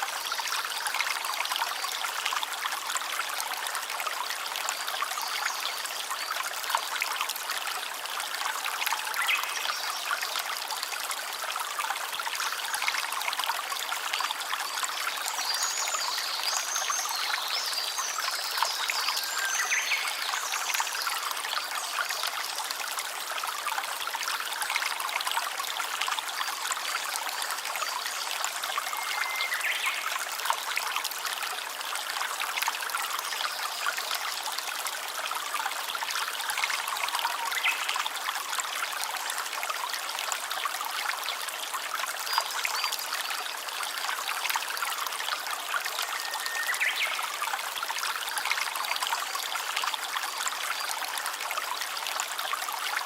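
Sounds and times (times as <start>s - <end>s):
stream trickling and babbling: 0.0s - 53.0s.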